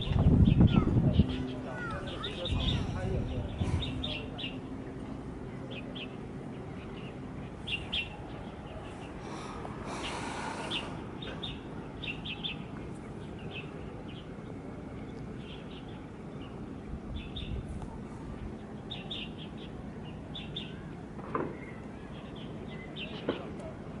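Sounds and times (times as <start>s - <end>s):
small birds chirping: 0.0s - 4.8s, 5.4s - 23.7s
low background noise: 0.0s - 24.0s.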